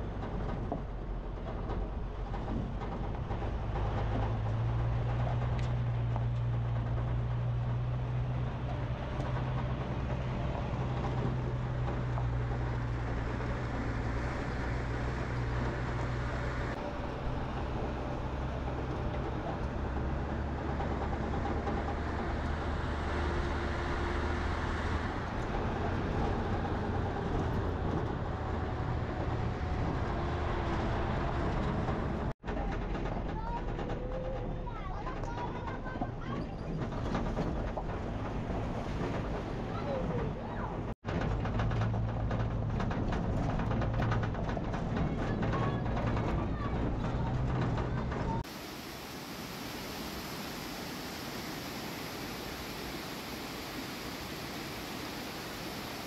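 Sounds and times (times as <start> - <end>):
vehicle running hum: 0.0 - 56.0.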